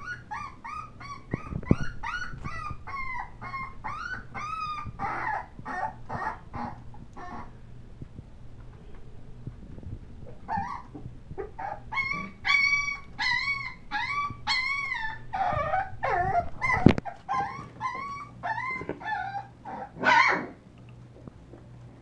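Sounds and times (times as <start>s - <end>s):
puppies whining and yipping: 0.0s - 7.6s, 10.3s - 20.5s.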